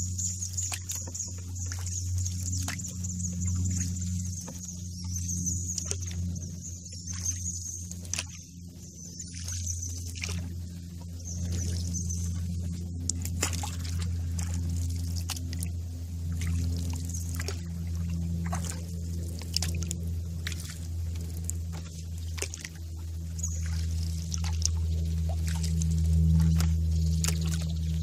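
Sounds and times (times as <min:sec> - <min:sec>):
steady low hum: 0:00.0 - 0:28.0
water dripping and splashing: 0:00.2 - 0:05.2, 0:05.8 - 0:06.5, 0:07.1 - 0:08.4, 0:09.2 - 0:11.8, 0:12.4 - 0:28.0.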